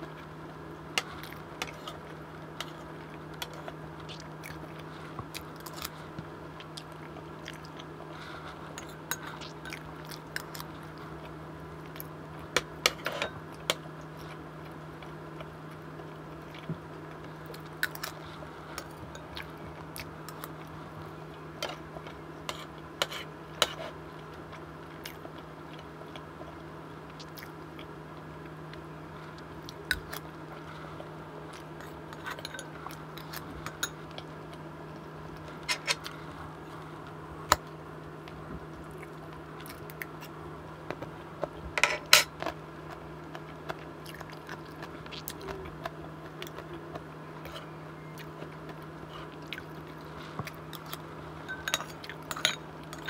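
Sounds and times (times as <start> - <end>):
steady low hum: 0.0 - 53.0
chewing and mouth sounds: 1.0 - 36.9, 37.6 - 40.4, 42.3 - 53.0.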